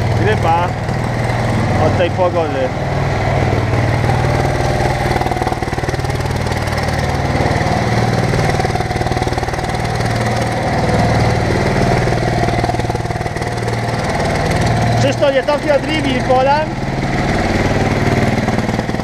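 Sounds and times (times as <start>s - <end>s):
diesel loader engine running: 0.0s - 19.0s.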